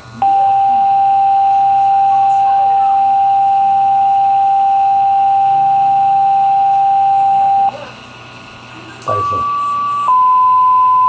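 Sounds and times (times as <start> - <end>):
high radio paging tone: 0.2 - 7.9, 9.1 - 11.0.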